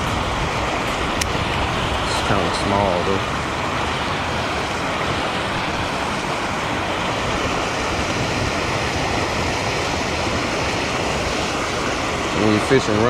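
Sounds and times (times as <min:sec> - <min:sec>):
water rushing from an outflow: 0:00.0 - 0:13.0.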